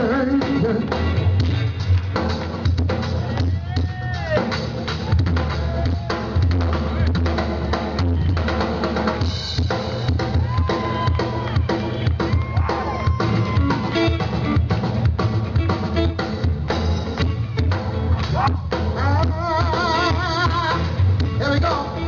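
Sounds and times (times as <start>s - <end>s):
drum kit beat: 0.0s - 22.0s
live soul band playing: 0.0s - 22.0s.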